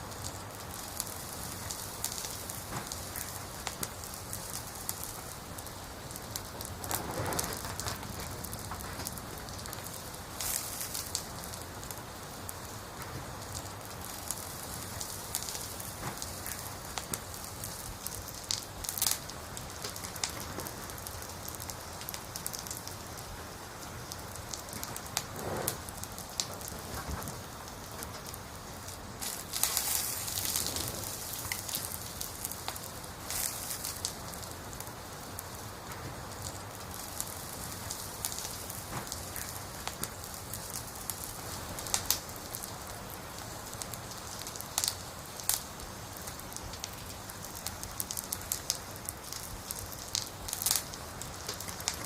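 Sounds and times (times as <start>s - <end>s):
campfire crackling and popping: 0.0s - 52.0s
steady fire hiss: 0.0s - 52.0s.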